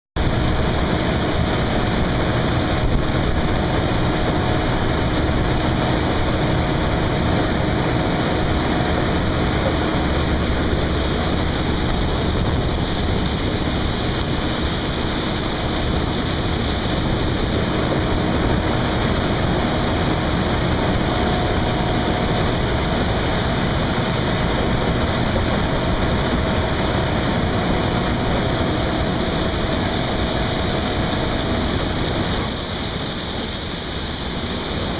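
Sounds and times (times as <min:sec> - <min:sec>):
faint steady whine: 0:00.2 - 0:34.9
harvest machinery droning: 0:00.2 - 0:34.9.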